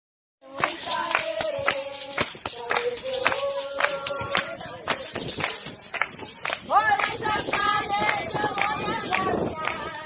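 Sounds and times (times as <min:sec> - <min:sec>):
tambourine shaken and struck: 0:00.4 - 0:10.0.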